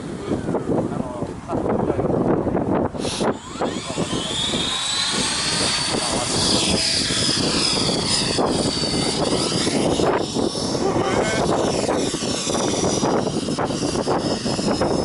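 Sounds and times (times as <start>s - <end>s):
model helicopter rotor whine: 3.0s - 15.0s.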